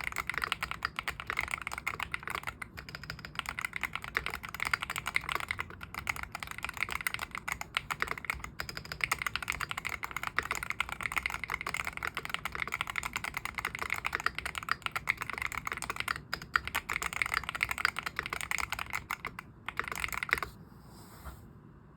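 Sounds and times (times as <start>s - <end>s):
fast keyboard typing: 0.0s - 20.6s.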